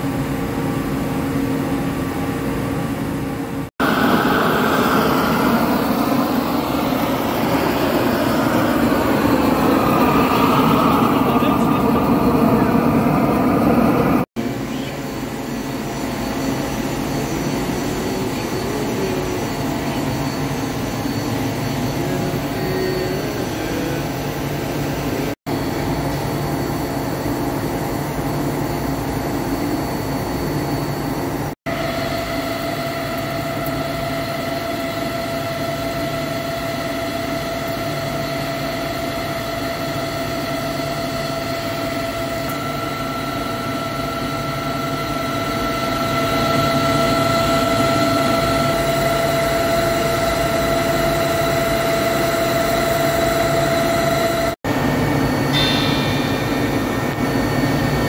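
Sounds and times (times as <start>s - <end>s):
steady machine whine: 0.0s - 58.0s
gas torch roaring: 3.0s - 58.0s
lathe machine hum: 3.6s - 58.0s.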